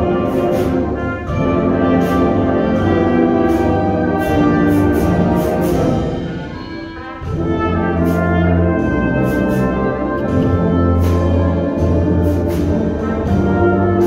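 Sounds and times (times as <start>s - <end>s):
concert band playing: 0.0s - 14.0s
low brass chords: 0.0s - 14.0s
sharp percussion strikes: 0.0s - 14.0s.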